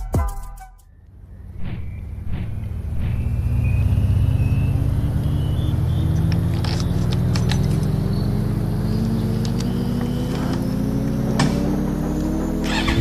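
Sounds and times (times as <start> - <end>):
motorcycle engine running: 2.1 - 13.0.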